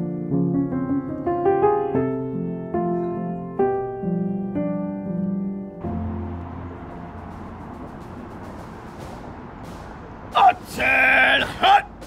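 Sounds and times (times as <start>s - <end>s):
piano music: 0.0s - 10.8s.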